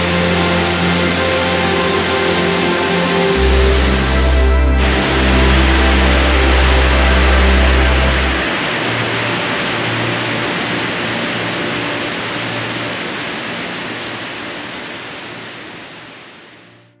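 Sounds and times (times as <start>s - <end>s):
waterfall rushing into pool: 0.0s - 16.8s.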